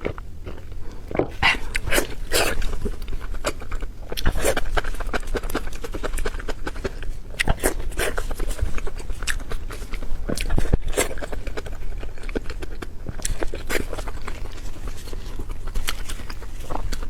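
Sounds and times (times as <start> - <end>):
chewing and lip smacking: 0.0 - 17.0.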